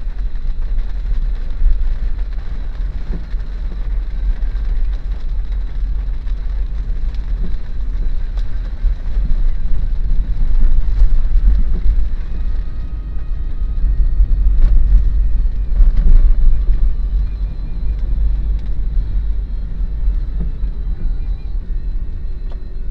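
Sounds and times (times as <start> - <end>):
car engine and road noise: 0.0 - 22.9.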